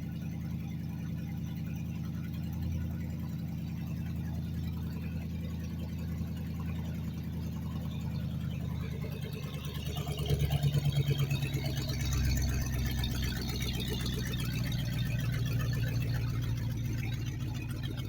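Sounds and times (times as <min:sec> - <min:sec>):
car engine idling loudly: 0:00.0 - 0:18.0.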